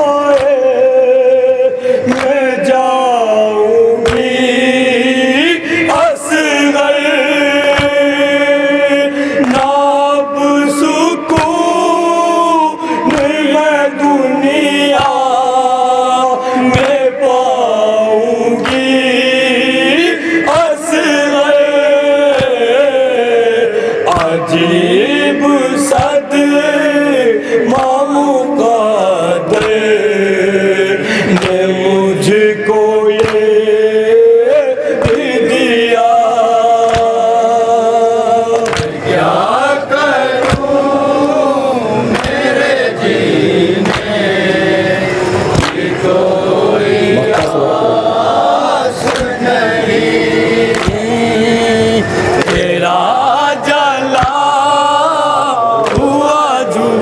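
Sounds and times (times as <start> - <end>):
men chanting: 0.0 - 57.0
rhythmic chest-beating slaps: 0.0 - 57.0.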